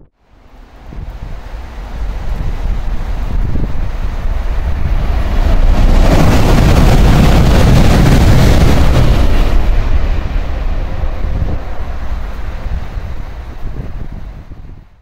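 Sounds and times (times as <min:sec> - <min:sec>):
wind buffeting microphone: 0:00.0 - 0:15.0
train passing at high speed: 0:00.2 - 0:15.0.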